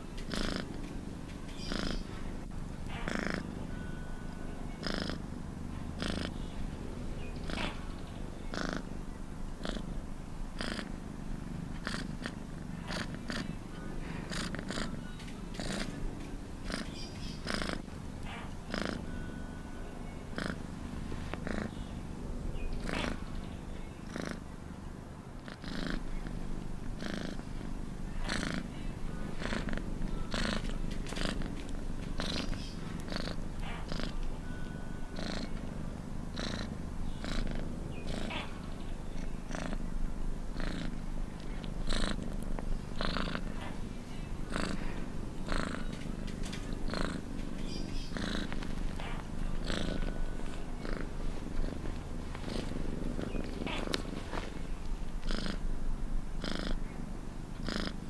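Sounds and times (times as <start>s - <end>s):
cat purring: 0.0s - 24.7s, 25.3s - 58.0s.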